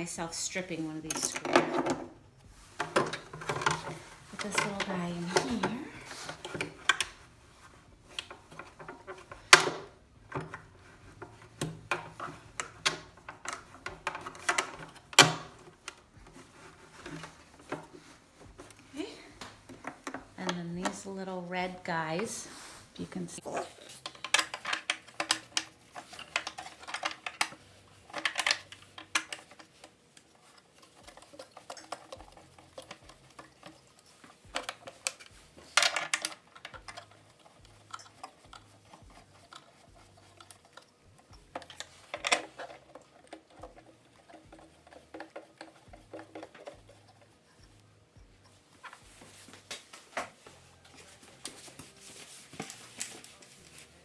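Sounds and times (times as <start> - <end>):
metal parts and tools clinking: 0.4 - 54.0.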